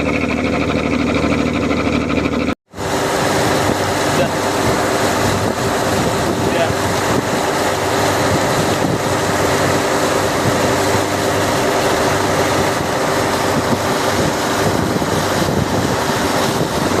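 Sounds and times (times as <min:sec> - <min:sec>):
boat engine running: 0:00.0 - 0:17.0
rushing water: 0:02.7 - 0:17.0
wind on microphone: 0:02.7 - 0:17.0.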